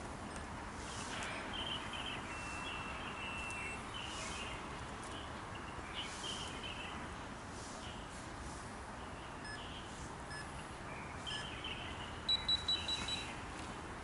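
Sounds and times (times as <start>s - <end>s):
outdoor ambient hiss: 0.0s - 14.0s
birds chirping: 0.3s - 8.1s, 9.0s - 13.9s.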